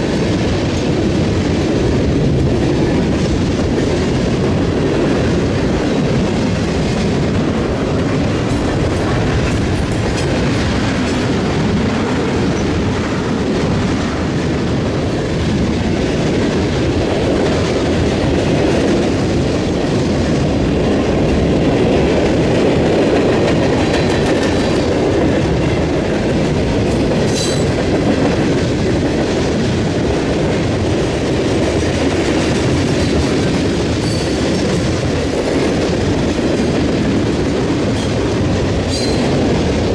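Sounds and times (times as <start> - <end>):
train wheels clacking on rails: 0.0 - 39.9.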